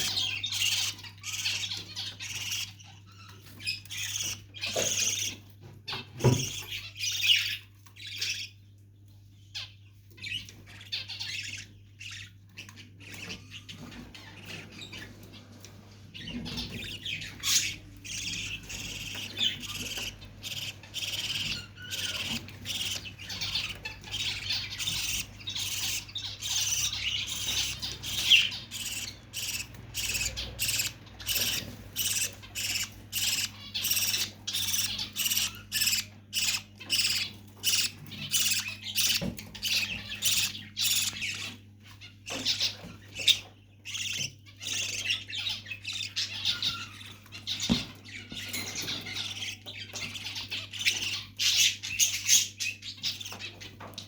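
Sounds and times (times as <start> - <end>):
lovebirds chirping and squawking: 0.0 - 54.0.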